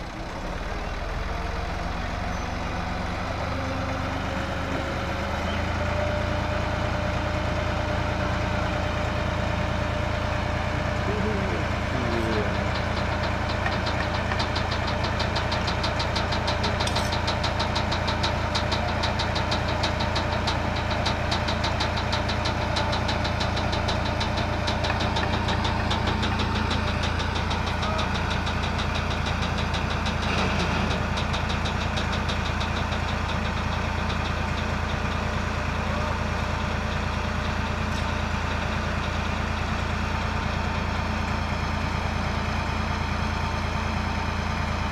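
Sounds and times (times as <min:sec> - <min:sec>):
tractor diesel engine clattering: 0:00.0 - 0:44.9.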